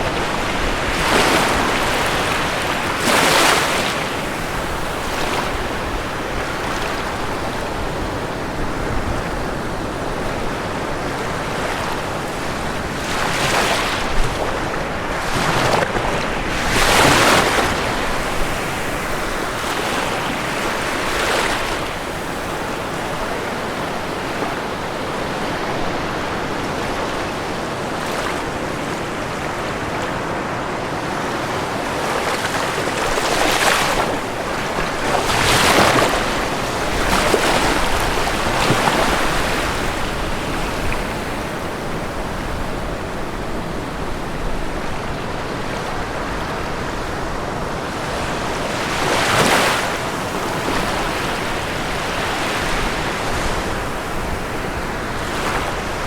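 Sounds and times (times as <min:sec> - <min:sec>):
ocean waves crashing on shore: 0:00.0 - 0:56.0.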